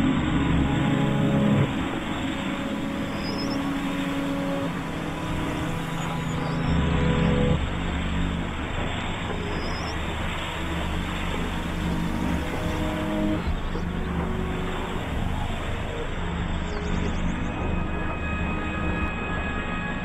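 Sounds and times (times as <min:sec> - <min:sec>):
dense rumbling drone: 0:00.0 - 0:20.0.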